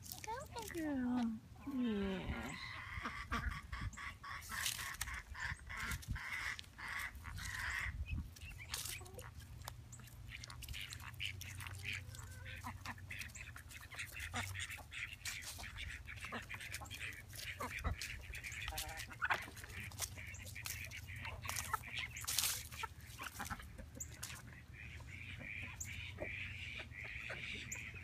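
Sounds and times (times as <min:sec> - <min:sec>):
ducks quacking: 0:02.0 - 0:28.0.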